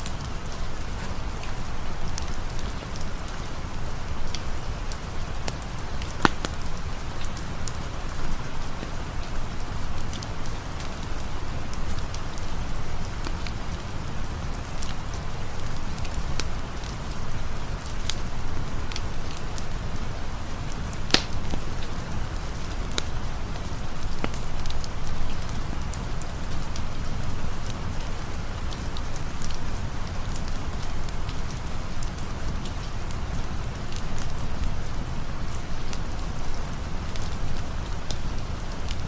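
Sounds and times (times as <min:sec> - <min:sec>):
campfire popping and crackling: 0:00.0 - 0:39.0
steady rain: 0:00.0 - 0:39.0.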